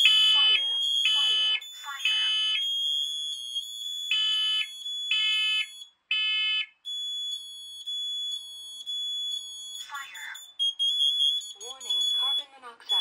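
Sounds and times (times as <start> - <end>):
high-pitched alarm tone: 0.0 - 13.0
smoke alarm beeps: 0.0 - 13.0.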